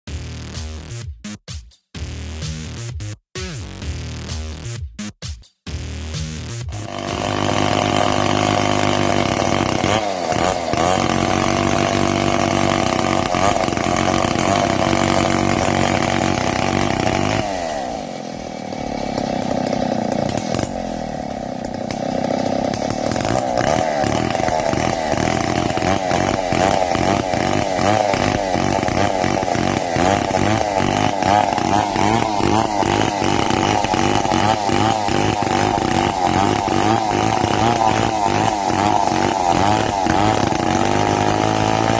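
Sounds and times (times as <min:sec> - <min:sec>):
chainsaw cutting log: 0:06.7 - 0:41.9.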